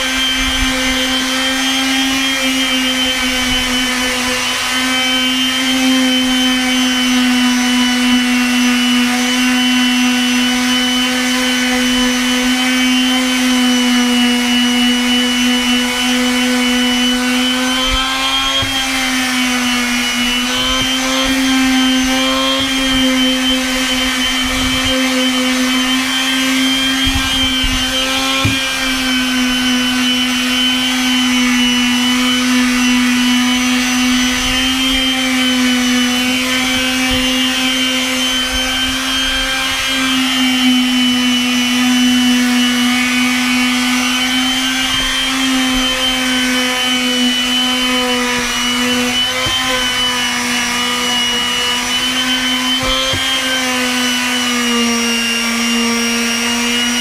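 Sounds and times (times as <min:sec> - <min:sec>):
palm sander running on wood: 0:00.0 - 0:57.0.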